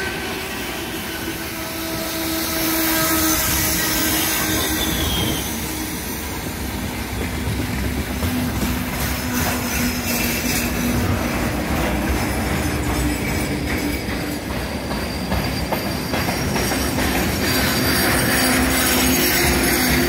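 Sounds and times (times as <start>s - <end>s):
freight train wheels clattering: 0.0s - 20.0s.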